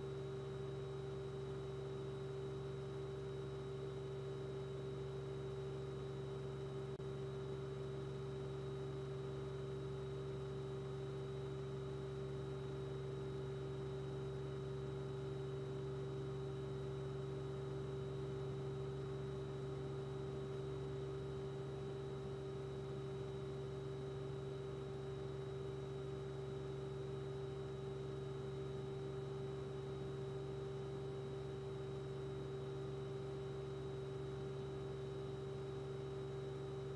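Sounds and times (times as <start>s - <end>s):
steady electrical hum: 0.0s - 36.9s.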